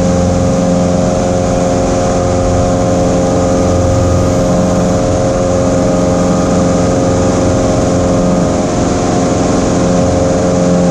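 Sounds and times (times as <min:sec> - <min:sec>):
propeller plane engine drone: 0:00.0 - 0:10.9.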